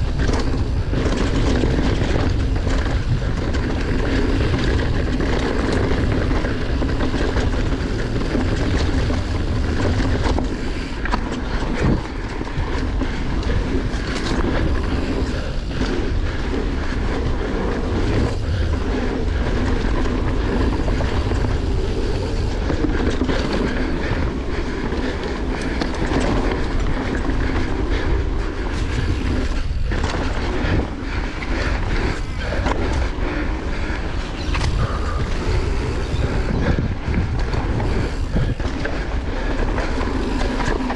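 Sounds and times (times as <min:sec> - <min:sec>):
bike chain and frame rattling: 0:00.0 - 0:40.9
bike tyre rumble: 0:00.0 - 0:40.9
wind on microphone: 0:00.0 - 0:40.9.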